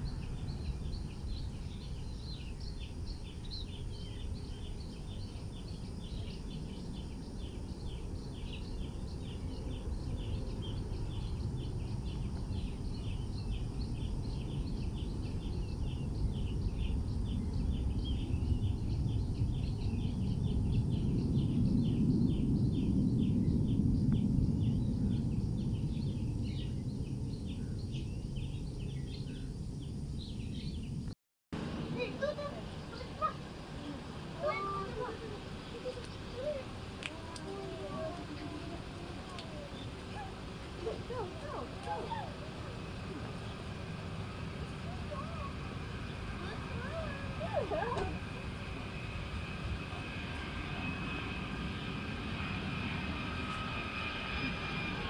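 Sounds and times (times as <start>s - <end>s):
jet engines rumbling: 0.0s - 31.0s, 31.6s - 55.0s.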